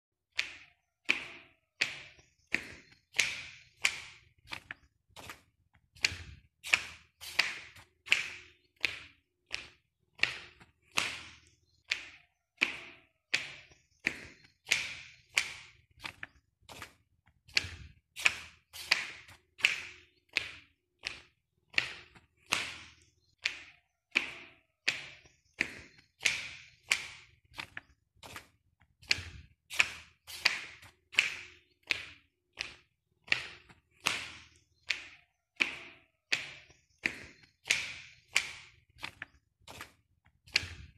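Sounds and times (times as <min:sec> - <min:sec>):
footsteps walking: 0:00.3 - 0:40.9.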